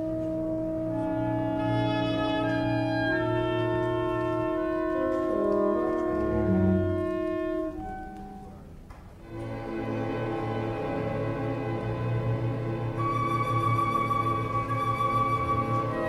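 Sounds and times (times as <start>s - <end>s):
orchestra playing slow chords: 0.0s - 16.0s.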